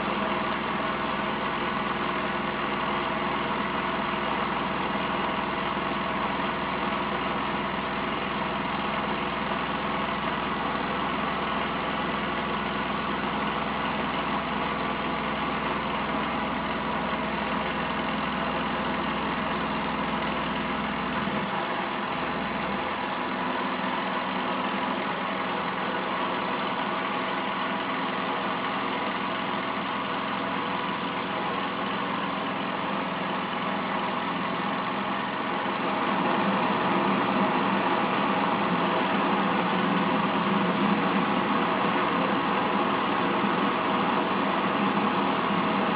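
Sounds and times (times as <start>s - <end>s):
model stirling engine whirring: 0.0s - 45.9s.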